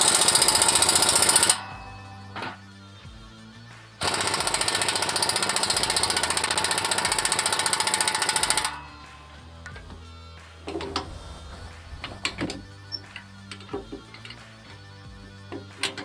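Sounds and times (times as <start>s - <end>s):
pneumatic impact wrench rattling: 0.0s - 2.6s, 4.0s - 14.8s, 15.4s - 16.0s.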